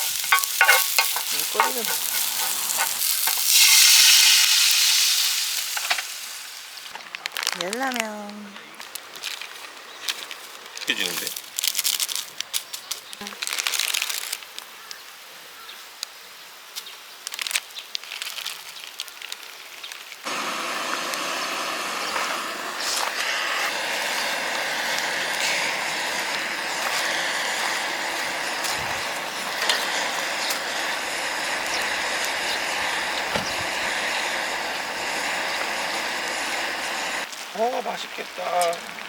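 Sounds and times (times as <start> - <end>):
noodles sizzling in a hot pan: 0.0 - 8.2, 8.8 - 15.2, 15.9 - 39.0.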